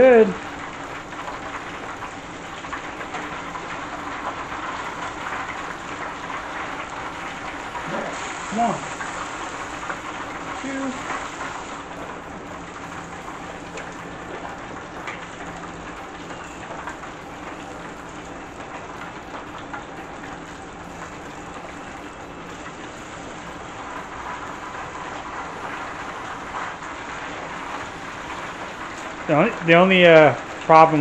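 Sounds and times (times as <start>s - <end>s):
deep-frying sizzle with crackles: 0.0s - 31.0s.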